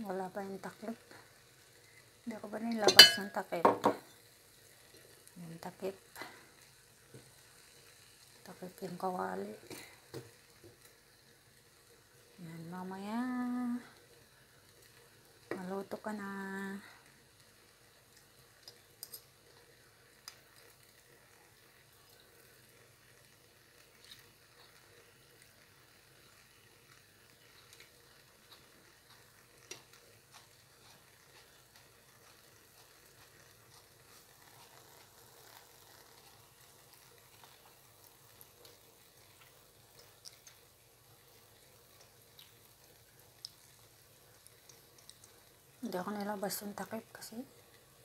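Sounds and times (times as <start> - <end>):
food sizzling in oil: 0.0 - 48.0
oil pops and crackles: 6.1 - 11.1, 14.0 - 48.0.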